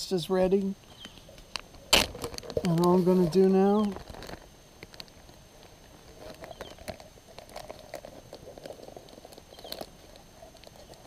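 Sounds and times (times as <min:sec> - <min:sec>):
plastic bag crinkling: 0:01.3 - 0:11.0.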